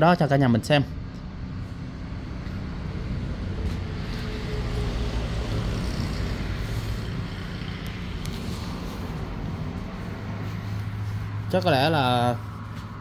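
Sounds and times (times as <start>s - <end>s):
steady low rumble: 0.6s - 13.0s
vehicle passing: 0.8s - 13.0s.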